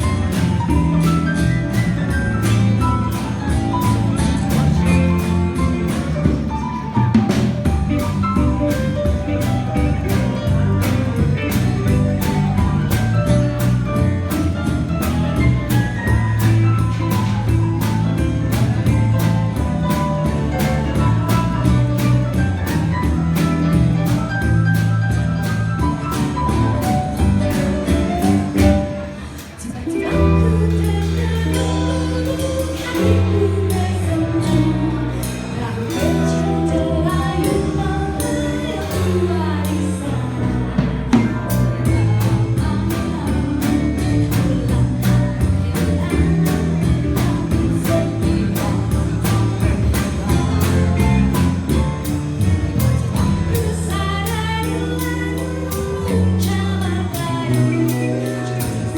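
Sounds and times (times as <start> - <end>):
live pop band playing: 0.0 - 58.9
woman singing: 0.0 - 58.9.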